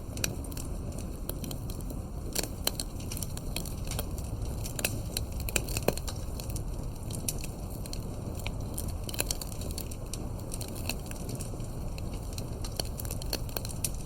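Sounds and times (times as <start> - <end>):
burning wood popping: 0.0 - 14.0.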